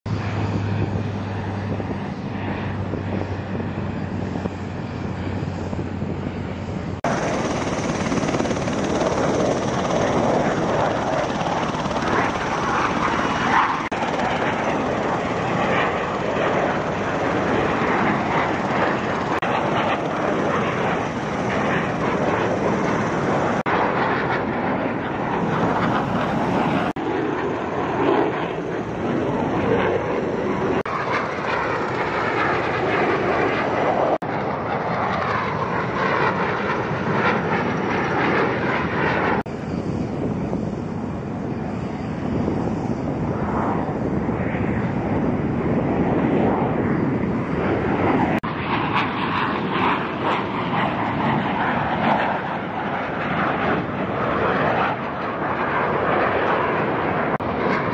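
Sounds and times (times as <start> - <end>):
jet roar flying past: 0.1 - 57.9
turboprop propeller drone: 0.1 - 57.9.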